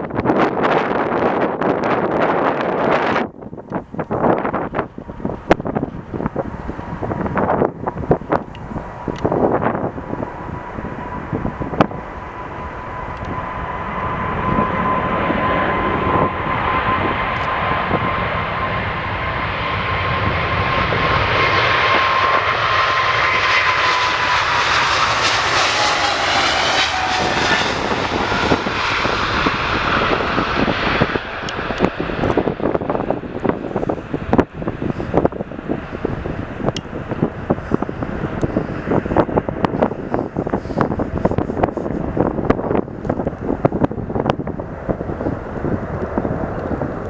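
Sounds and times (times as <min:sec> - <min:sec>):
jet engine whine: 0:00.0 - 0:47.0
jet engines roaring: 0:00.0 - 0:47.0.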